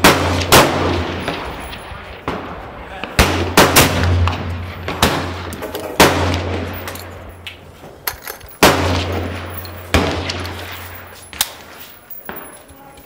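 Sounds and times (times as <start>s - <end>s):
gunshots echoing off hills: 0.0s - 7.7s, 8.6s - 11.7s.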